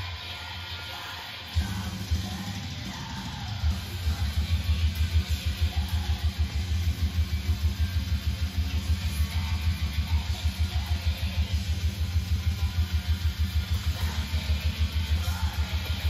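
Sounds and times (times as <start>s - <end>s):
metal music: 0.0s - 16.0s.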